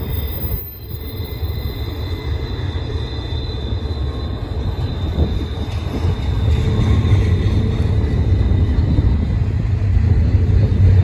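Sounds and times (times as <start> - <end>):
high wheel squeal: 0.0 - 9.8
steel wheels rumbling on rail: 0.0 - 11.0.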